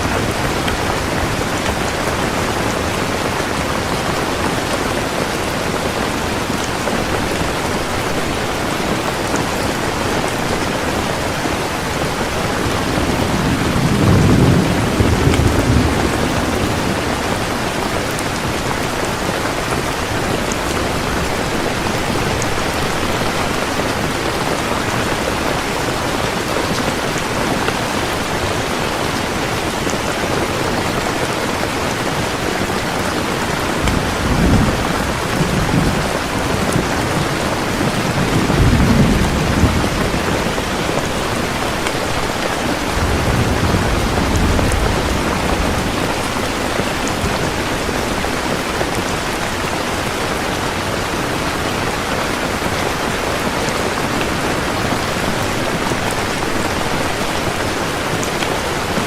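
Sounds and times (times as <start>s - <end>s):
thunder rumbling: 0.0s - 31.3s, 31.9s - 50.2s
heavy rain falling: 0.0s - 59.0s.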